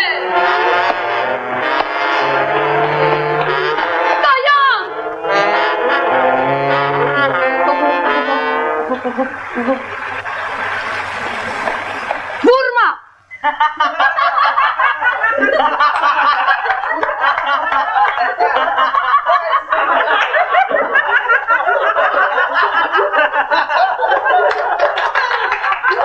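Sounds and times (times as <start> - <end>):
group of people laughing: 0.0 - 12.4, 13.3 - 26.0.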